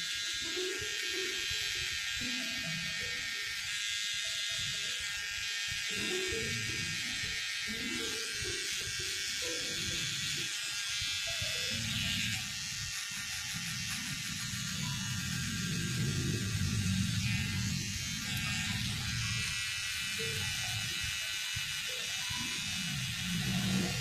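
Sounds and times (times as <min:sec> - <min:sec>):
electric hair clipper buzzing: 0:00.0 - 0:24.0.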